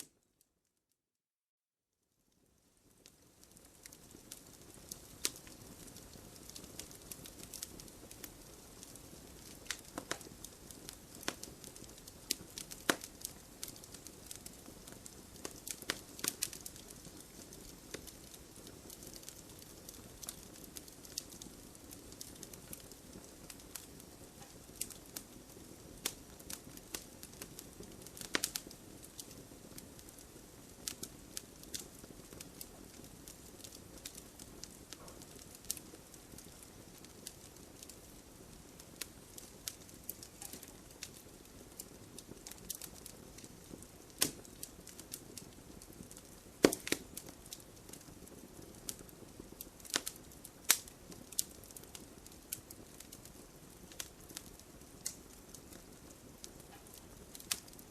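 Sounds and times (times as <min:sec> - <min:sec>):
fire crackling and popping: 0:02.2 - 0:57.9
fire flames hissing: 0:03.1 - 0:57.9.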